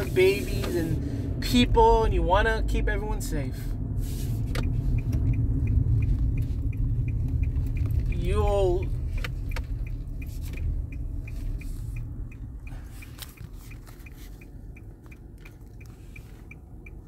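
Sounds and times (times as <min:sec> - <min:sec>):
car engine and road rumble: 0:00.0 - 0:17.0
turn signal ticking: 0:00.0 - 0:17.0.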